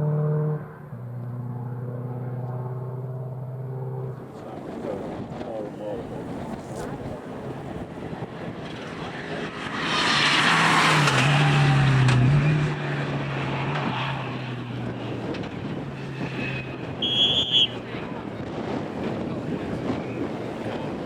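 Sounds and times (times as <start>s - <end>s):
rally car passing at speed: 0.0s - 21.0s.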